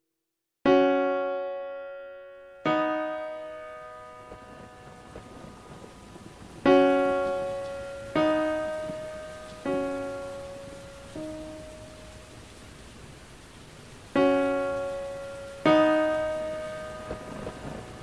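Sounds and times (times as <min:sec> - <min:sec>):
piano chords ringing out: 0:00.7 - 0:18.0
steady rain-like hiss: 0:00.7 - 0:18.0.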